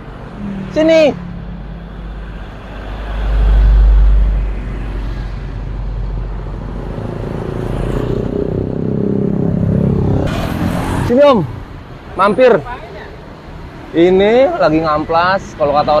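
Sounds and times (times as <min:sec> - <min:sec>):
motorcycles passing: 0:00.0 - 0:12.8
car passing: 0:00.0 - 0:12.9.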